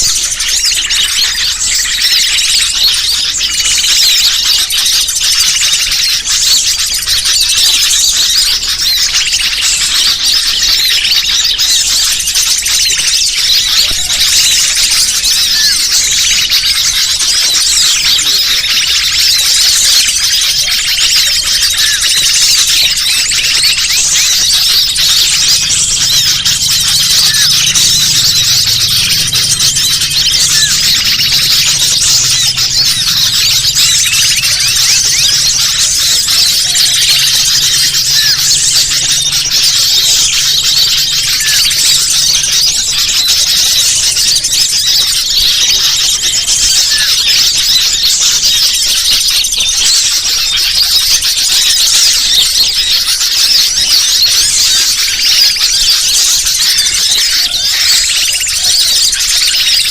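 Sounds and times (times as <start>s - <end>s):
many small birds chirping: 0.0s - 59.9s.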